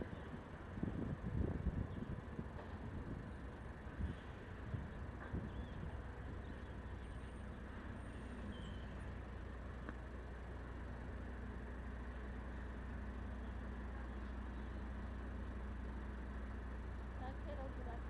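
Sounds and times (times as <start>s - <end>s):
low hum: 0.0s - 18.0s
traffic rumble on city road: 0.0s - 18.0s.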